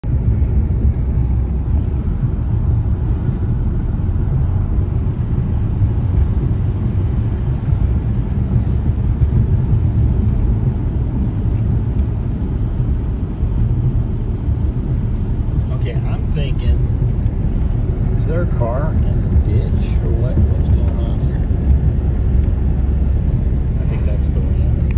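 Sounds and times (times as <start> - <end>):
road rumble inside car: 0.0 - 24.9
tyres on wet road: 0.0 - 24.9.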